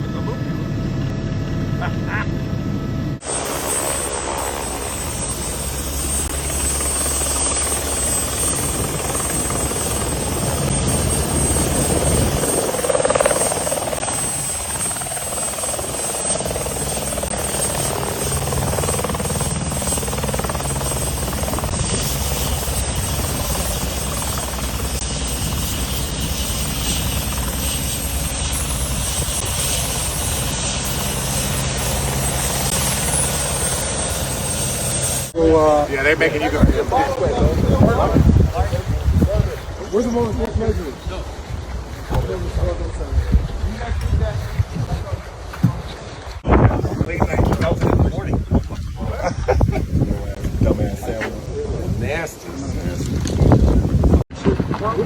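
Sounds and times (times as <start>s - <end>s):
helicopter rotor beating: 0.0s - 55.0s.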